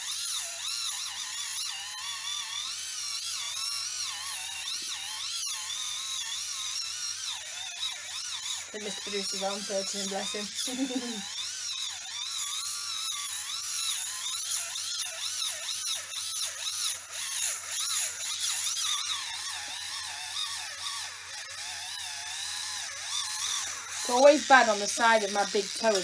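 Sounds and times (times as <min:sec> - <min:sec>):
electric callus remover grinding: 0:00.0 - 0:26.0.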